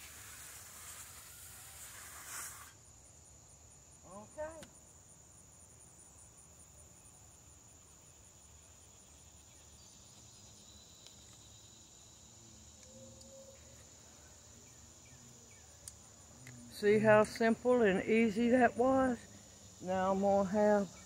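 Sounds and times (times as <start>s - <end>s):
insect high trill: 0.0s - 21.0s
soft pulsing insect chirp: 0.0s - 21.0s.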